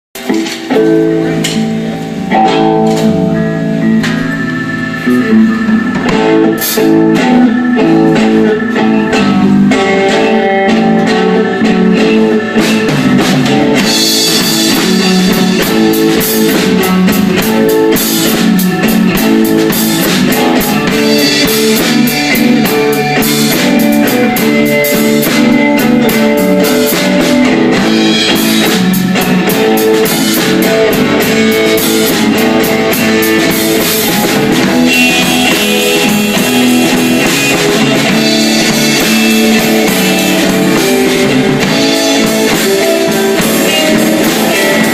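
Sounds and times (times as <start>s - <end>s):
guitar and bass guitar: 0.0s - 44.9s
drum kit with cymbals: 0.2s - 44.9s.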